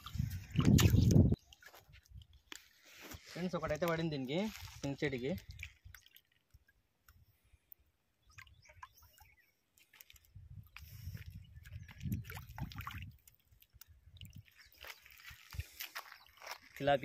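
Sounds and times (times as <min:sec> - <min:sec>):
fish thrashing and splashing: 0:00.0 - 0:06.8, 0:08.3 - 0:16.9.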